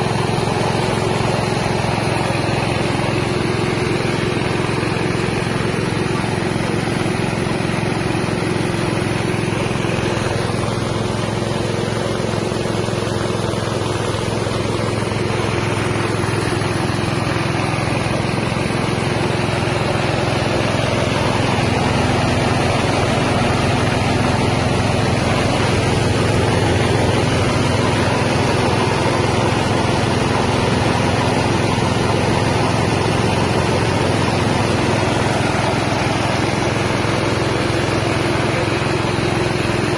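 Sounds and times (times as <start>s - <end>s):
rice milling machine drone: 0.0s - 39.9s.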